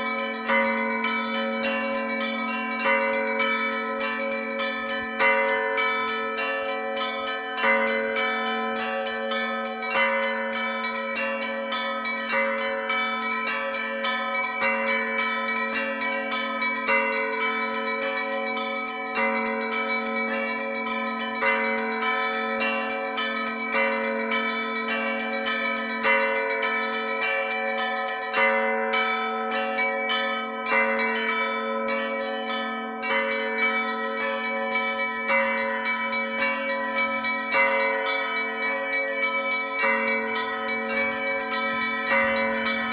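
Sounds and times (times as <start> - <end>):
hum of large bells: 0.0 - 42.9
small church bells pealing: 0.0 - 42.9.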